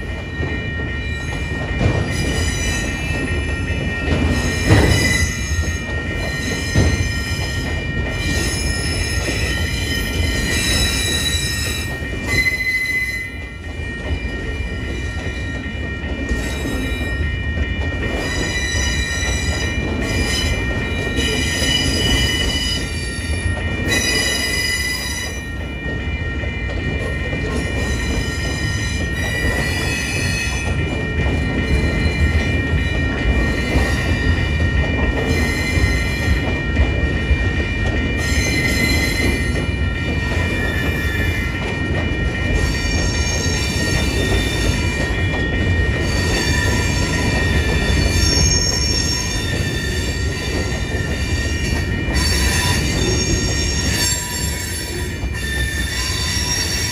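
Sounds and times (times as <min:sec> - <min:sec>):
train cars rumbling: 0:00.0 - 0:56.9
wheels squealing on rails: 0:00.0 - 0:56.9.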